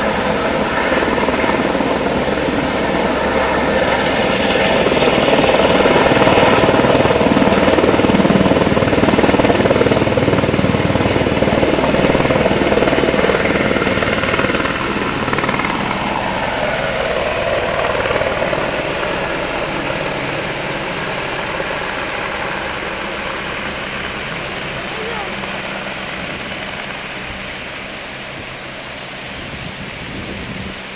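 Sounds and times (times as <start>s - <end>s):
helicopter rotor and engine: 0.0s - 30.9s.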